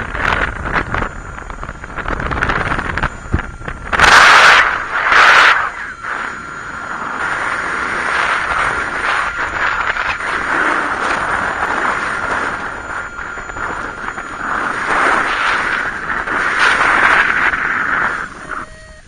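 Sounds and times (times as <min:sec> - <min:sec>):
strong wind on microphone: 0:00.0 - 0:19.0.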